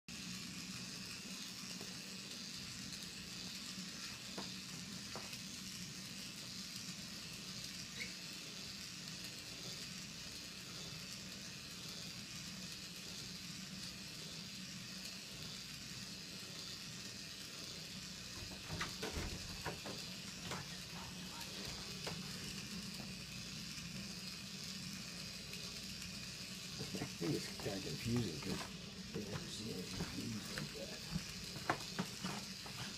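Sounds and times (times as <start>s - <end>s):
steady background hiss: 0.4s - 32.9s.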